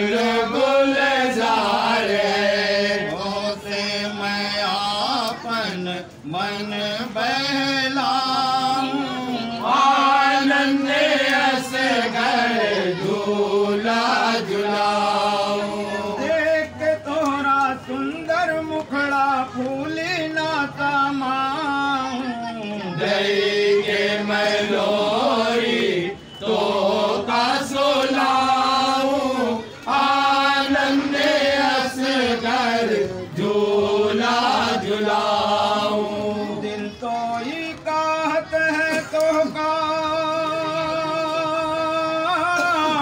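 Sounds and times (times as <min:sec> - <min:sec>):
man singing devotional song: 0:00.0 - 0:43.0.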